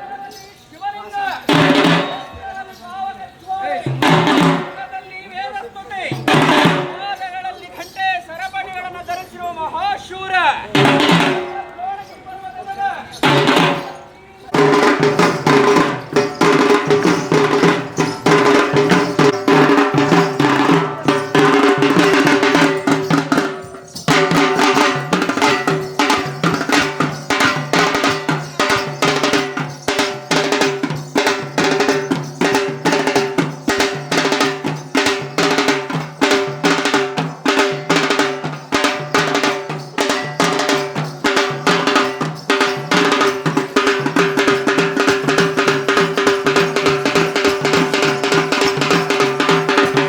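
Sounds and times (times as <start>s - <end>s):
drum-led music: 1.4s - 2.4s, 3.8s - 4.9s, 6.0s - 7.2s, 10.7s - 11.8s, 13.2s - 50.0s.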